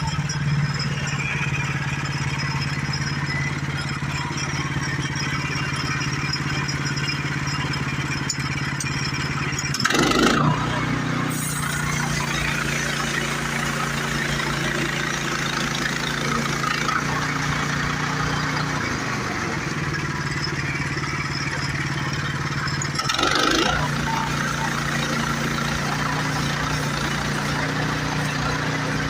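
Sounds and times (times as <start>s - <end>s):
sawmill gas engine running: 0.0s - 29.0s.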